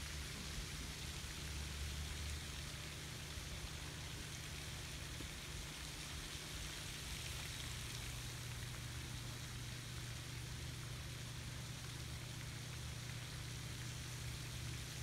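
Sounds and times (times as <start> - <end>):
fountain spray splashing on water: 0.0 - 15.0
low steady hum: 0.0 - 15.0.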